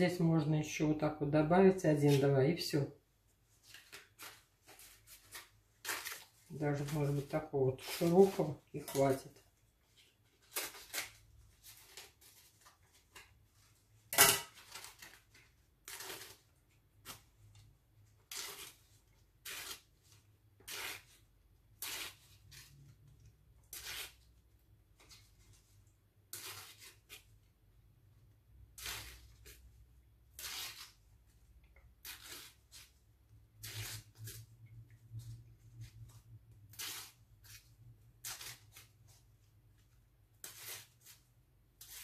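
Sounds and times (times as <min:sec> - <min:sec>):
corn husk crackling and tearing: 0:03.6 - 0:27.4, 0:28.6 - 0:42.0.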